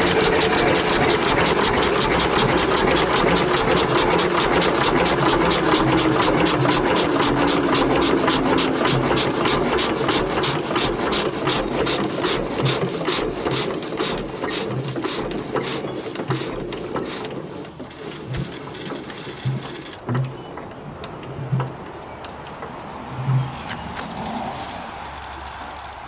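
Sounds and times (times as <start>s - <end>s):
diesel engine clattering down: 0.0s - 26.0s.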